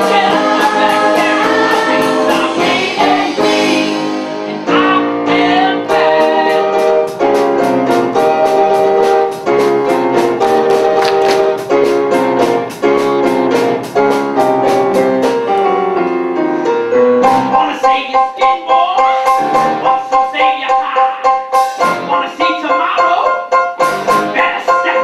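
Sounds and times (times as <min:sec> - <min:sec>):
keyboard chords: 0:00.0 - 0:25.0
pit band playing show music: 0:00.0 - 0:25.0.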